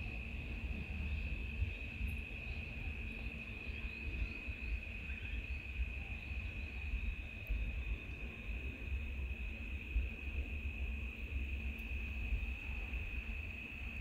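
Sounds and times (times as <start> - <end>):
insect high-pitched trill: 0.0 - 14.0
low rumble on microphone: 0.0 - 14.0.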